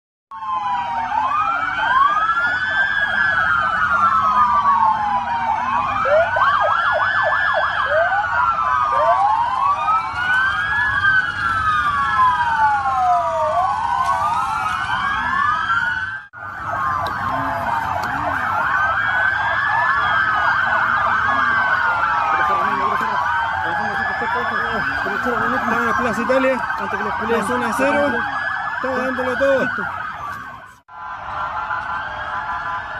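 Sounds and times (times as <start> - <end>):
police sirens wailing: 0.3 - 32.9.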